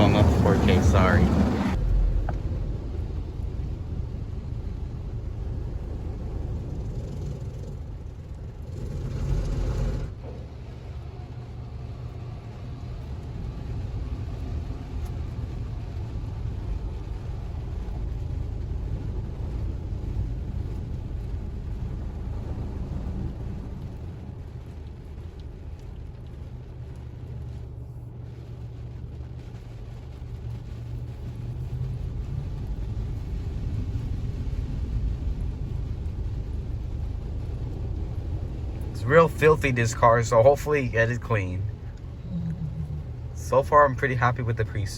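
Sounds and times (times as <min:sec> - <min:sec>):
car wash machinery rumble: 0:00.0 - 0:44.9.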